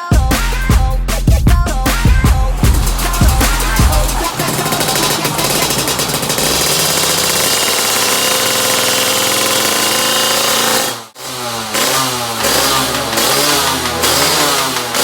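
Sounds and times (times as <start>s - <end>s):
two-stroke motorcycle engine revving: 2.2s - 15.0s.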